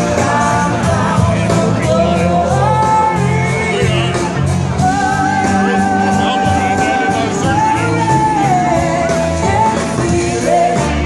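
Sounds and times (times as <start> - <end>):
live blues-rock band playing: 0.0 - 11.0
voices singing: 0.0 - 11.0.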